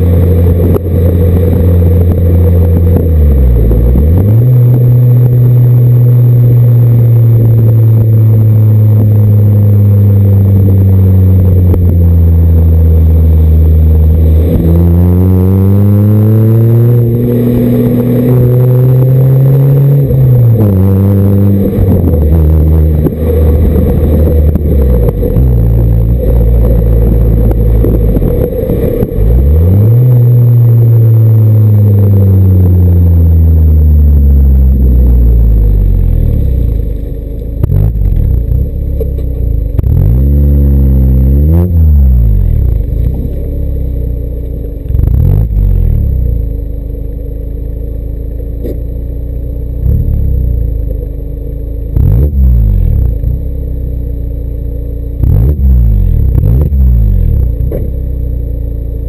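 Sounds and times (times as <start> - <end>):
car engine accelerating through gears: 0.0 - 59.0
engine revving: 0.0 - 59.0.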